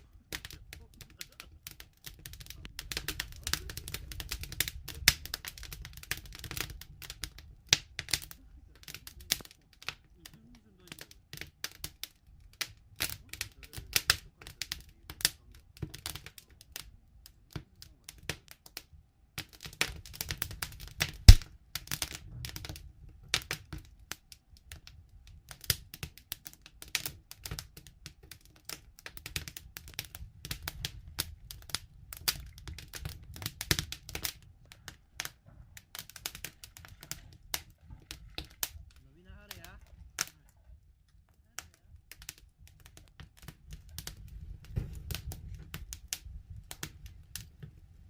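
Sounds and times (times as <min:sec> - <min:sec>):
campfire crackling and popping: 0:00.0 - 0:48.0
low rumble of flames: 0:00.0 - 0:48.0.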